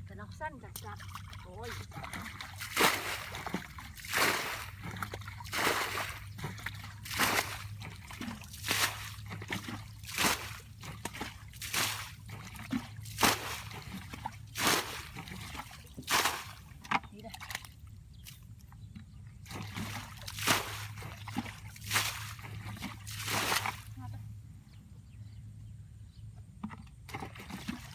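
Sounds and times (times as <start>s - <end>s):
water splashing and sloshing: 0.0s - 24.3s, 26.5s - 27.9s.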